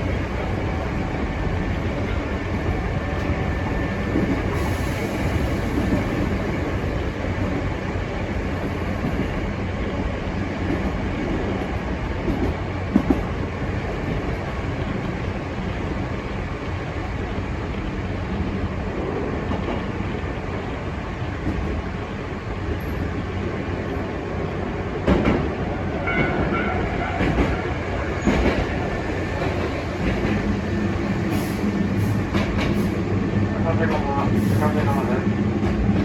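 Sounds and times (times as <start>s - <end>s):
train rolling rumble: 0.0s - 36.0s.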